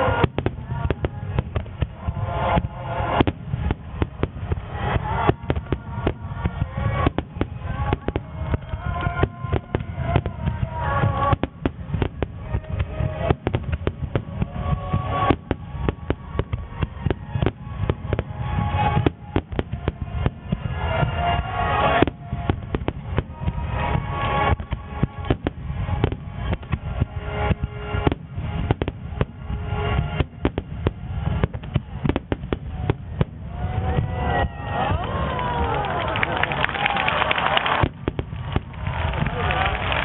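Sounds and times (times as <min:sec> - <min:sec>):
fireworks bursting with sharp bangs: 0:00.0 - 0:40.0.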